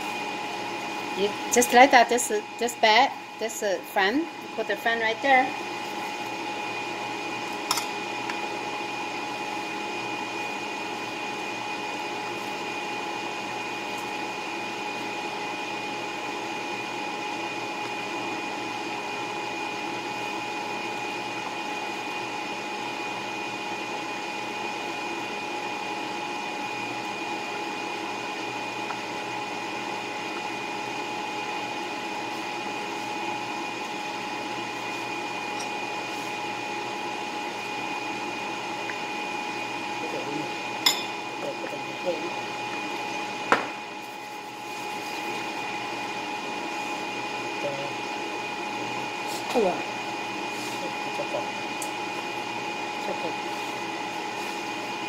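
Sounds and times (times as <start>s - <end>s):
electric fan whirring: 0.0s - 55.0s.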